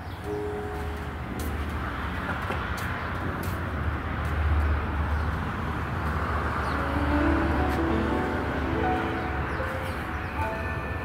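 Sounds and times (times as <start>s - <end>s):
vehicle passing with tyre hiss: 0.4s - 11.0s.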